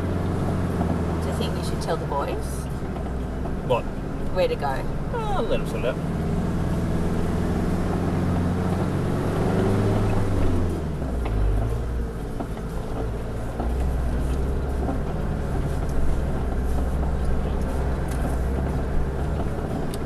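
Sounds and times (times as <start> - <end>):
vehicle knocking and rattling: 0.0 - 6.1, 7.8 - 20.0
vehicle engine droning: 0.0 - 20.0.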